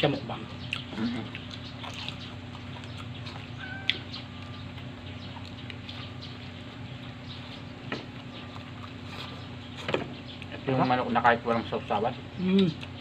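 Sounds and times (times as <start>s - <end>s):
steady low hum: 0.0s - 13.0s
people eating crispy chicken: 0.4s - 10.7s, 12.1s - 13.0s.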